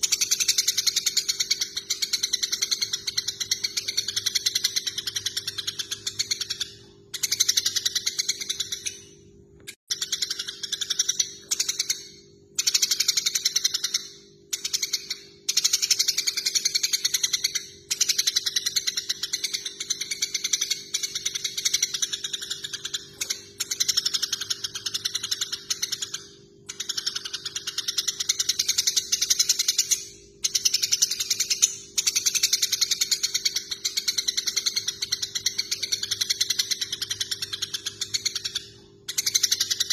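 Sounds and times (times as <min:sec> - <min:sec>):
sparrows chattering: 0:00.0 - 0:09.0, 0:09.9 - 0:39.9.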